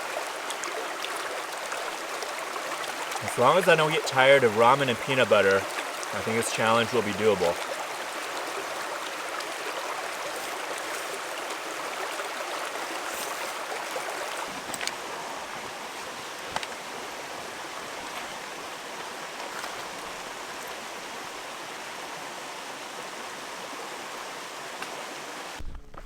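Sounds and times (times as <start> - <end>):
stream running: 0.0 - 25.8.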